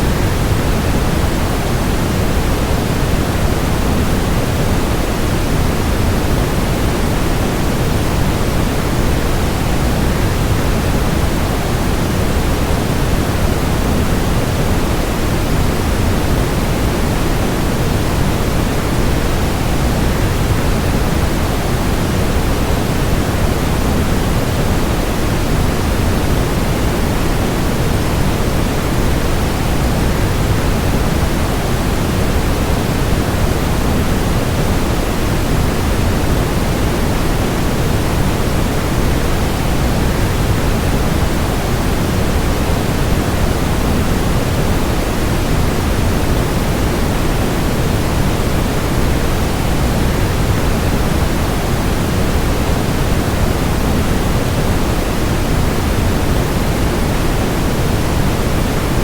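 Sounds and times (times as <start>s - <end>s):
white noise: 0.0s - 59.0s.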